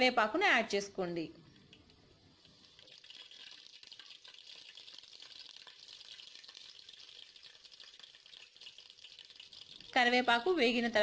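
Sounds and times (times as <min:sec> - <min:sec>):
spices sizzling in hot oil: 0:01.7 - 0:11.0.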